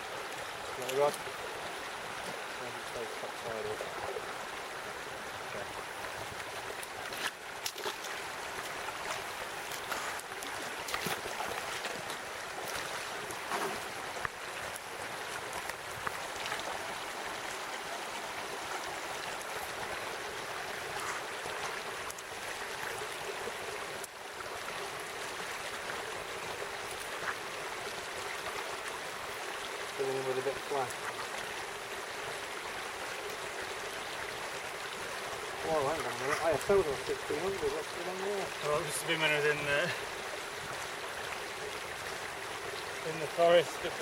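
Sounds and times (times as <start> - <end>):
shallow stream rushing: 0.0 - 44.0.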